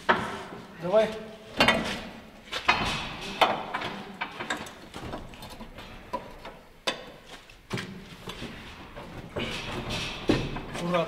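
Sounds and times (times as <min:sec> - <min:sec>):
metal clanking and knocking: 0:01.5 - 0:11.0.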